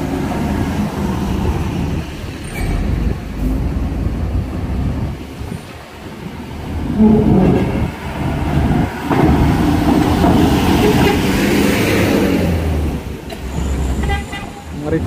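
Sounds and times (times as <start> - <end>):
diesel truck engine passing: 0.0 - 15.0.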